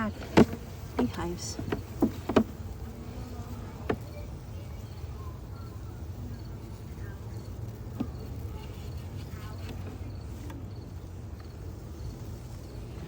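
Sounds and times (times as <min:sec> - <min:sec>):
crickets chirping: 0:00.0 - 0:13.0
steady low hum: 0:00.0 - 0:13.0.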